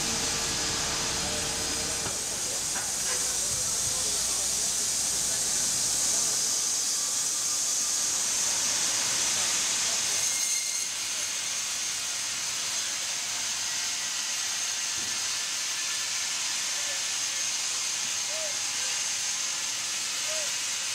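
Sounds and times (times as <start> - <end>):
band saw hissing through log: 0.0 - 20.9.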